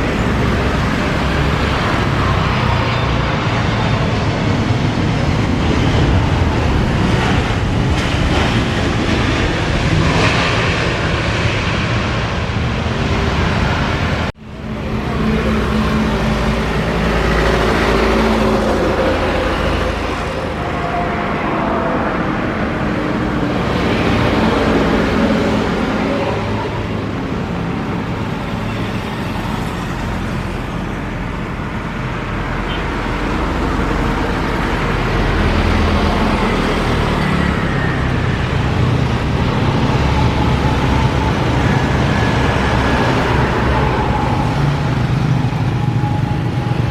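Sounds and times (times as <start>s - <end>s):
engine and traffic rumble: 0.0s - 46.9s
steady engine tones: 0.0s - 46.9s.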